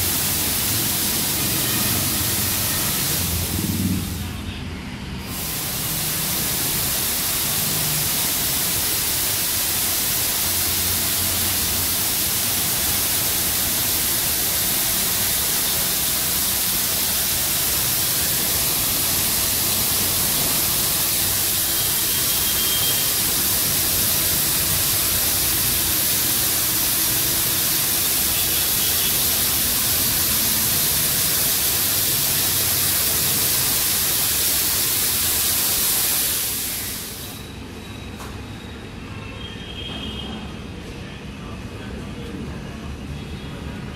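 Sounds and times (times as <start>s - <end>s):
car wash water jets spraying: 0.0s - 4.4s, 5.2s - 37.4s.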